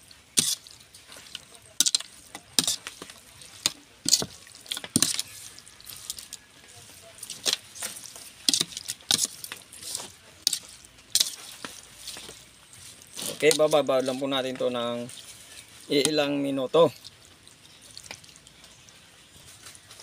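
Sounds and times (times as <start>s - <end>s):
wet sloshing: 0.0s - 14.0s, 15.1s - 19.1s.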